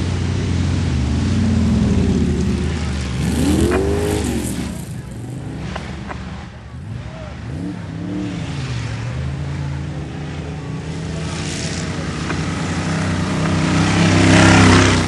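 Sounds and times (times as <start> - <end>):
racing engine revving: 0.0 - 15.0.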